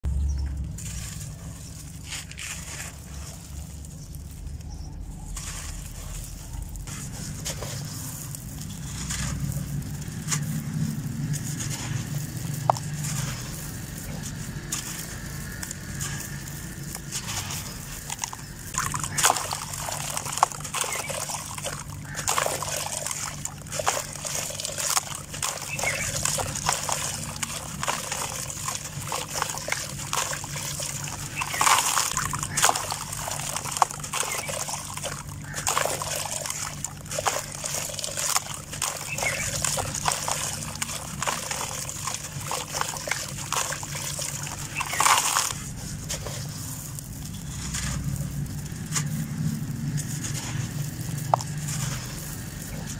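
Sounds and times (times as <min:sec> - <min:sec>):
grains splashing into water: 0:00.0 - 0:52.9
sand block crunching: 0:00.0 - 0:52.9.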